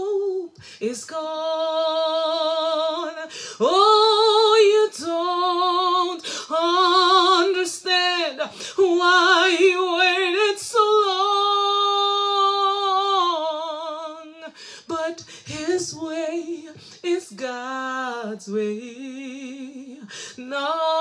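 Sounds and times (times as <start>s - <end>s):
woman singing unaccompanied: 0.0s - 21.0s.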